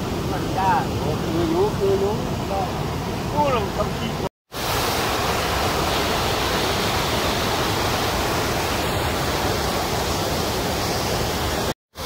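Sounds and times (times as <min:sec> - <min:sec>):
river rushing over a weir: 0:00.0 - 0:12.0.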